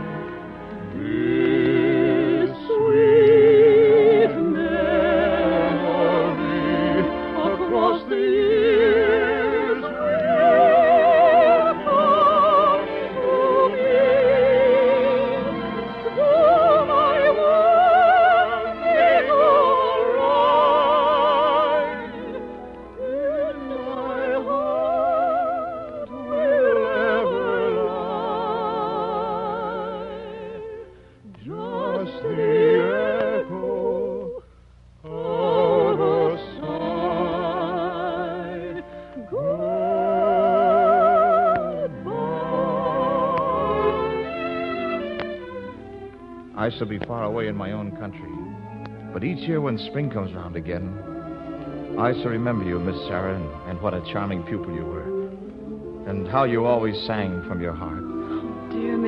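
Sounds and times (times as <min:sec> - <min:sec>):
soprano singing: 0:00.0 - 0:59.0.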